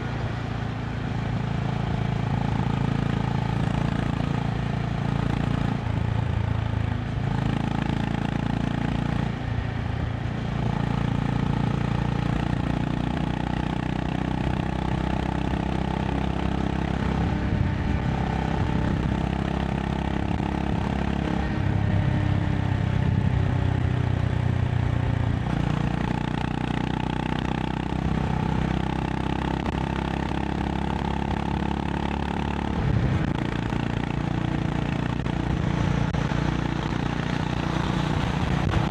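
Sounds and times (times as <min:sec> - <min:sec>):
motorcycle engine at speed: 0:00.0 - 0:38.9
wind and road noise: 0:00.0 - 0:38.9.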